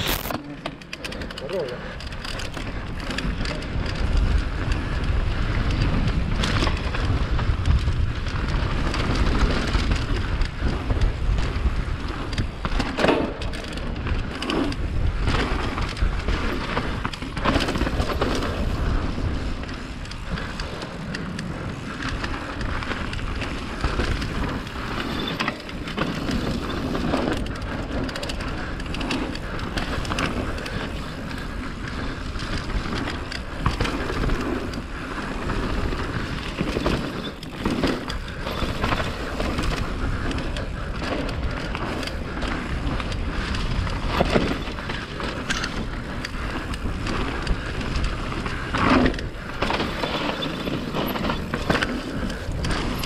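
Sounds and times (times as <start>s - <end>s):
bike rattling: 0.0s - 53.0s
bike tyre rumble: 0.0s - 53.0s.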